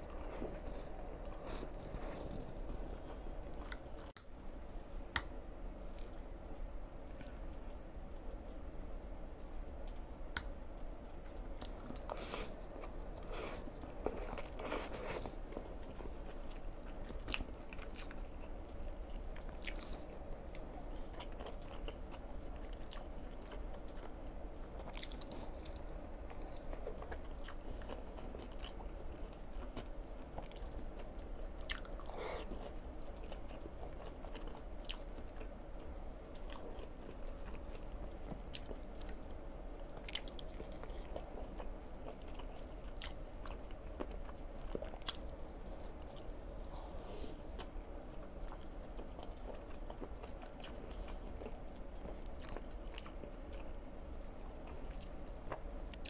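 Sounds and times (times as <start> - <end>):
person chewing food: 0.0 - 4.2, 9.9 - 56.0
steady low hum: 0.0 - 56.0.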